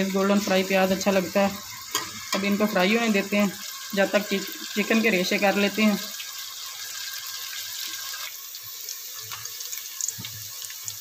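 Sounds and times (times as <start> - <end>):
onions sizzling in hot fat: 0.0 - 11.0.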